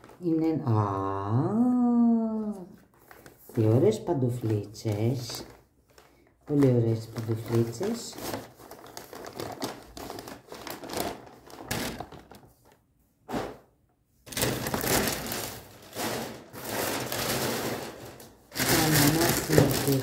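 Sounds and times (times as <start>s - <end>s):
gift packaging rustling: 0.0s - 0.8s, 2.6s - 12.9s, 14.2s - 20.0s.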